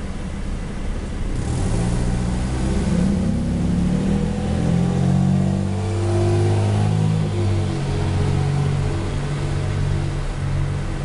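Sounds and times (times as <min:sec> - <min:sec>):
traffic rumble: 0:00.0 - 0:11.0
cars accelerating: 0:01.3 - 0:11.0.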